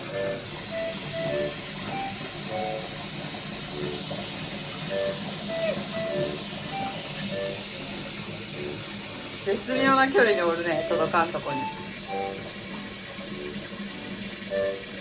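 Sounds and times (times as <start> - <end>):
light background music: 0.0 - 15.0
water running into washing machine: 0.0 - 15.0.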